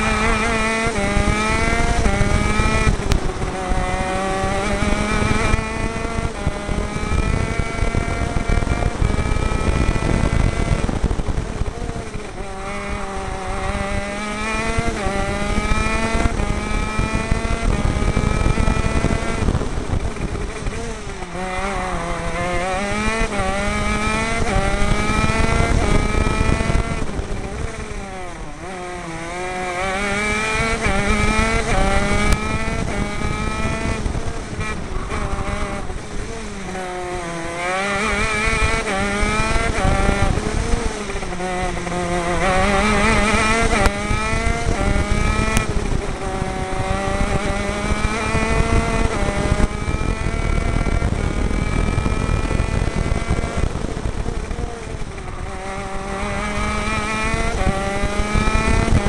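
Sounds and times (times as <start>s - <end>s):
kart engine revving through gears: 0.0s - 59.0s.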